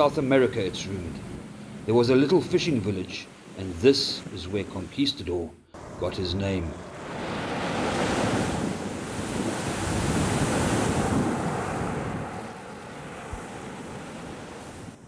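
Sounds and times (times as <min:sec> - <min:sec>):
waves breaking on beach: 0:00.0 - 0:05.2, 0:05.8 - 0:15.0.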